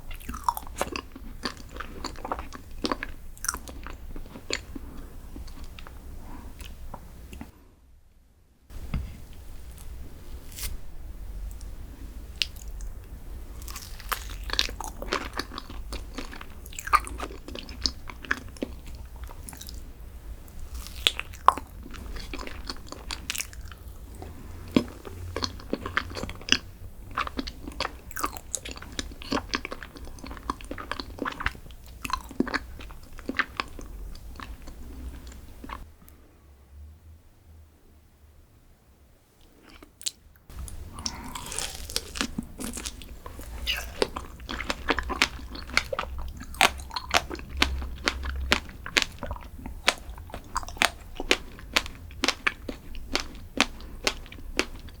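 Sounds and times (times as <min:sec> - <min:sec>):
person chewing crunchy food: 0:00.0 - 0:07.5, 0:11.4 - 0:35.9, 0:39.4 - 0:55.0.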